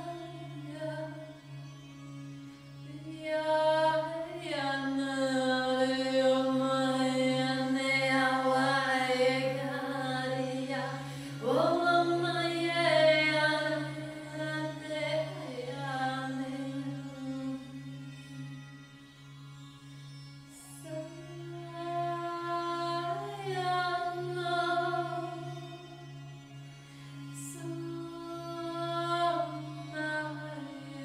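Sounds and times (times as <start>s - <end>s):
monochord drone: 0.0s - 31.0s.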